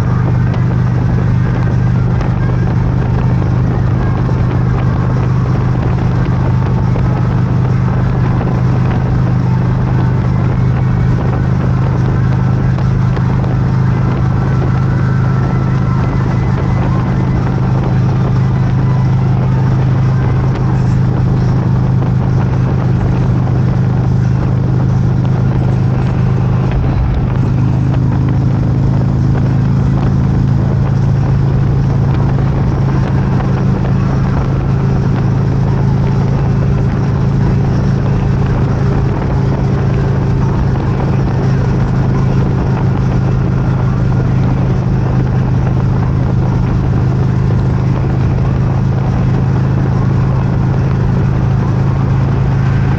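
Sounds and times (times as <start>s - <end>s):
motorcycle engine running: 0.0s - 52.9s
wind and road noise: 0.0s - 52.9s.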